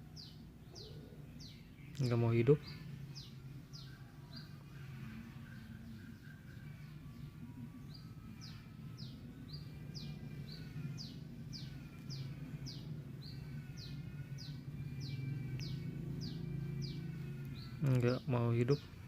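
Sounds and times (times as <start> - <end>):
bird chirping: 0.0 - 19.0
steady low hum: 0.0 - 19.0.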